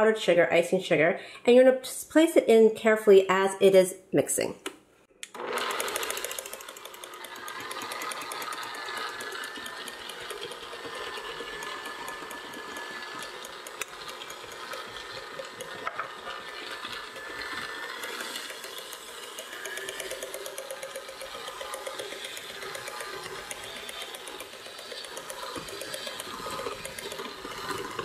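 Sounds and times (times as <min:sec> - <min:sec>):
stand mixer whirring and ticking: 0:05.3 - 0:28.0.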